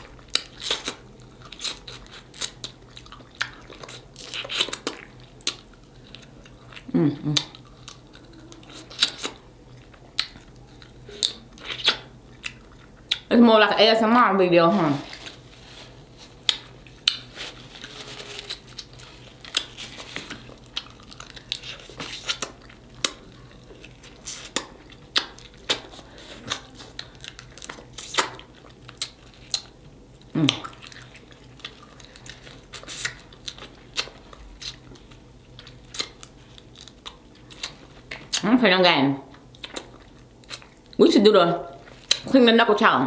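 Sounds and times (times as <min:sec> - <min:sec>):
chewing: 0:00.0 - 0:13.3, 0:15.1 - 0:38.5, 0:39.2 - 0:41.0, 0:41.7 - 0:42.3.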